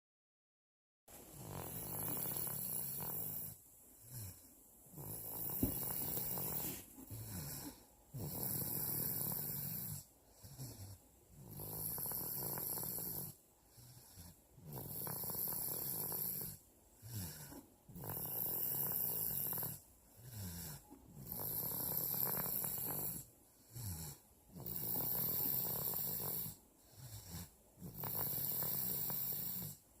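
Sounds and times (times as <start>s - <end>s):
quiet breath sounds: 1.1s - 30.0s
child snoring: 1.3s - 30.0s.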